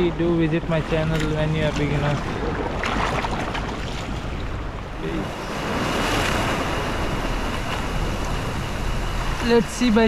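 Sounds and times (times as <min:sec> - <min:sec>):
sea waves breaking on rocks: 0:00.7 - 0:10.0.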